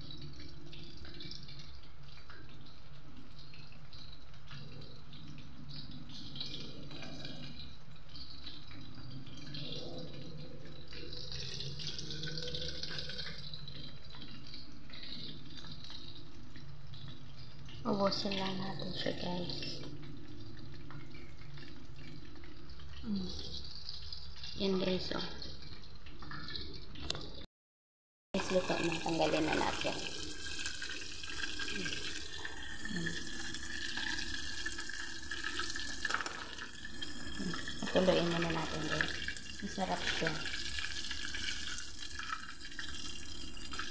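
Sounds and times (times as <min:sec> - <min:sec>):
chicken frying in oil: 0:00.0 - 0:27.5, 0:28.4 - 0:43.9.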